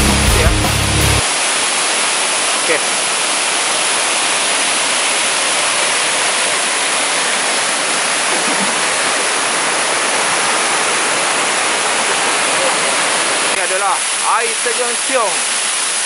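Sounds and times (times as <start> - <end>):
waterfall rushing over rocks: 0.4 - 16.0.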